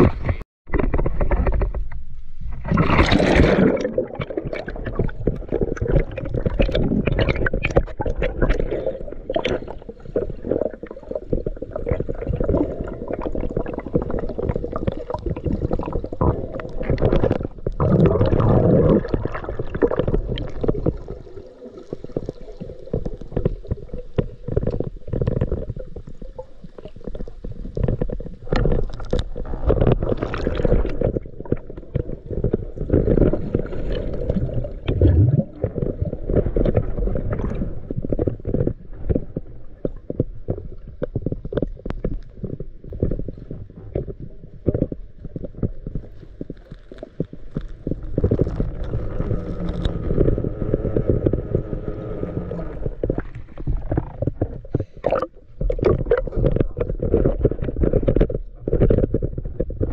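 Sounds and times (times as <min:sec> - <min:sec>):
small clicks and crackles underwater: 0:00.0 - 0:59.9
underwater gurgling and bubbling: 0:00.0 - 0:59.9
water splashing: 0:00.0 - 0:59.9.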